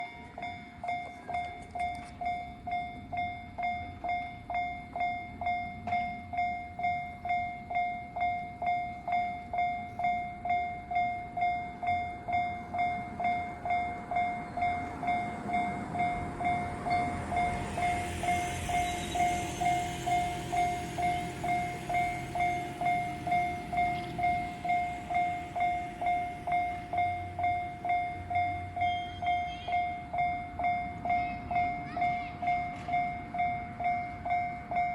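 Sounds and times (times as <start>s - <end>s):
level-crossing warning bell ringing: 0.0s - 34.9s
train rumble and wheel noise: 0.0s - 34.9s.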